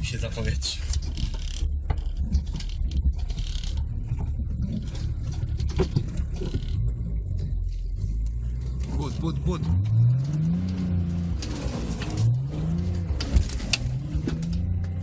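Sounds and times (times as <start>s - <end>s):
diesel engine running low: 0.0s - 15.0s.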